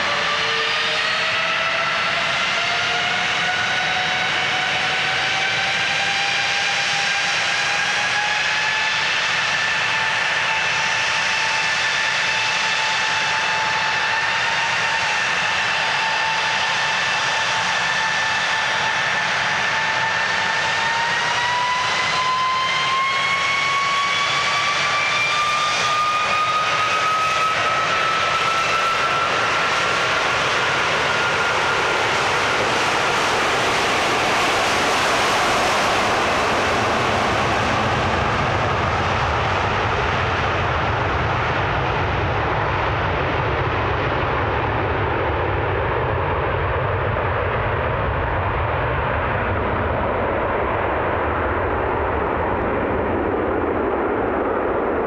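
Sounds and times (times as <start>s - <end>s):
jet engine fan whine: 0.0s - 55.0s
jet roar: 0.0s - 55.0s.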